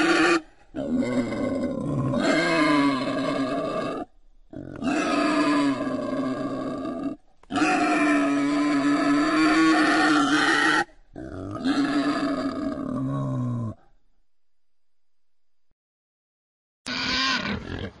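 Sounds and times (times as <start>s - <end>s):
wild boar calls: 0.0s - 13.8s, 16.9s - 18.0s.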